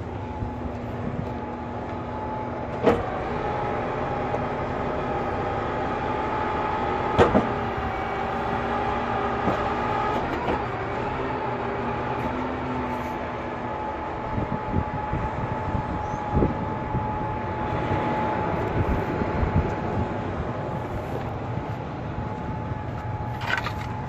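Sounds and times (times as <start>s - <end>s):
truck engine idling with whine: 0.0s - 24.0s.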